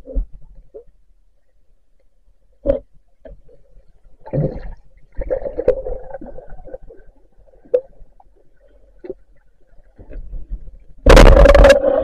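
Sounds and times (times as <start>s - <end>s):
underwater rumbling and gurgling: 0.0s - 12.0s.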